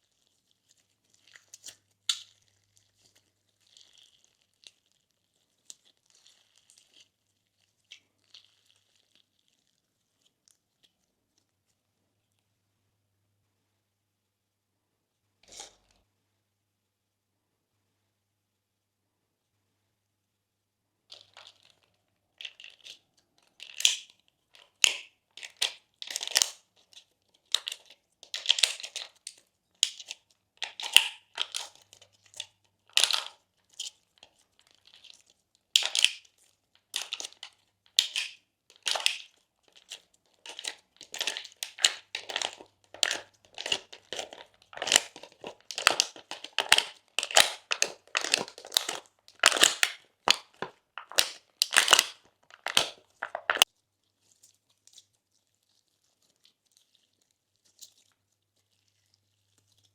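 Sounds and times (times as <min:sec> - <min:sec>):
slime crackles and squelches: 0:00.0 - 0:12.6, 0:21.0 - 0:59.9.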